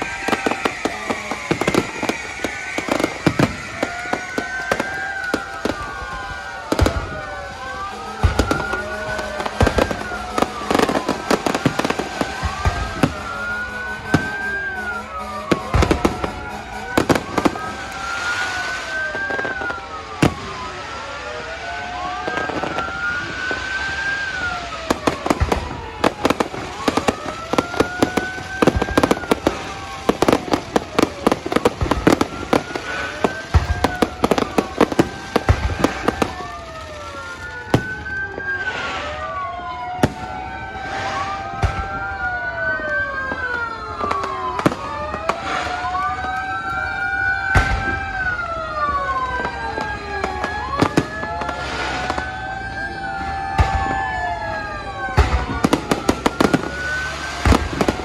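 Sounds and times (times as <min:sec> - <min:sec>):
fireworks bangs and crackles: 0:00.0 - 0:58.0
siren-like wailing fireworks: 0:00.0 - 0:58.0.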